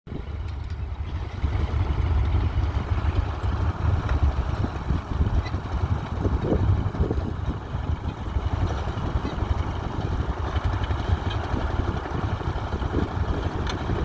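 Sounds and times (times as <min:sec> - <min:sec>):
tractor diesel engine running: 0:00.1 - 0:14.0.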